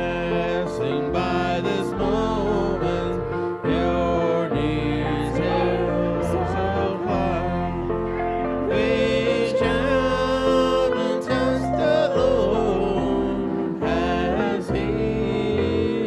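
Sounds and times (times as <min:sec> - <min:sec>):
hymn singing: 0:00.0 - 0:16.0
instrumental accompaniment: 0:00.0 - 0:16.0.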